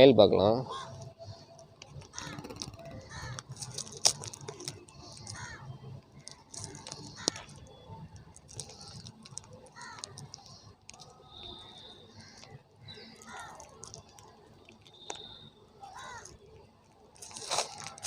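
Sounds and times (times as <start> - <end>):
plastic bag crinkling: 1.4 - 15.2, 15.8 - 18.0.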